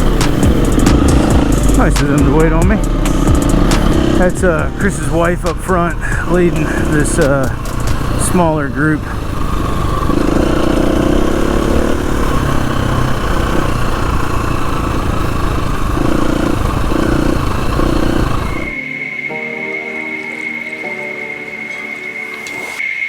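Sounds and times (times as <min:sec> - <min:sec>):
dirt bike engine revving: 0:00.0 - 0:22.8
high-pitched buzz: 0:00.0 - 0:23.0.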